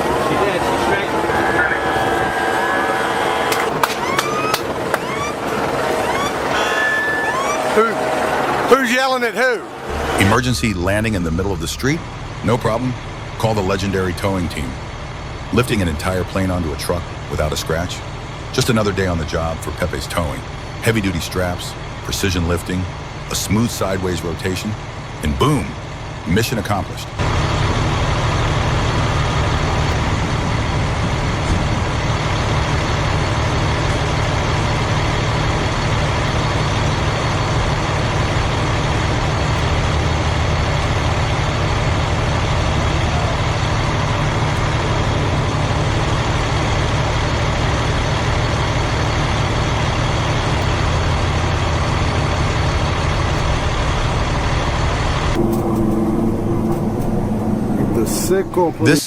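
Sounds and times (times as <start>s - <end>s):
heavy vehicle engine droning: 0.0s - 59.0s.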